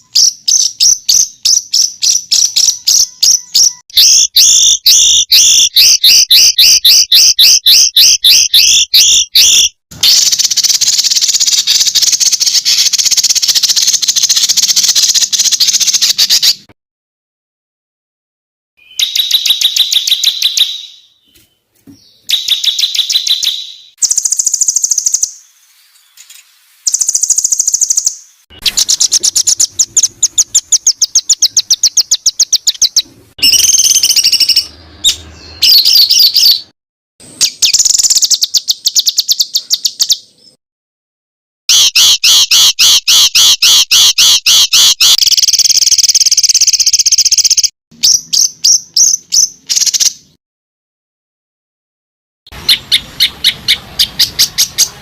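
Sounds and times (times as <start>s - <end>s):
songbird rapid chirping: 0.0s - 16.7s, 18.8s - 40.6s, 41.7s - 50.4s, 52.5s - 55.0s.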